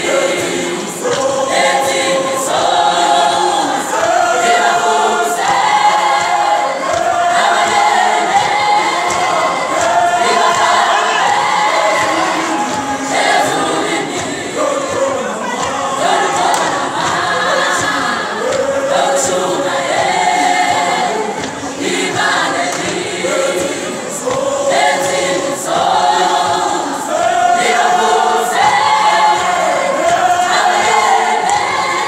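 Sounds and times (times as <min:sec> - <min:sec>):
choir singing in harmony: 0:00.0 - 0:32.0.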